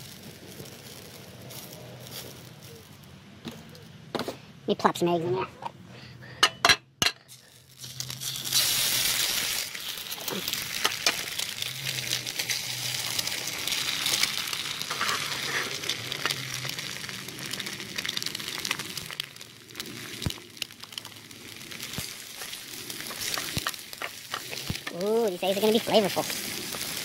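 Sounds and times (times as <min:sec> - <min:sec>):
eggs sizzling in oil: 0:00.0 - 0:02.8, 0:07.3 - 0:27.0
small crackles: 0:00.0 - 0:04.1, 0:07.2 - 0:27.0.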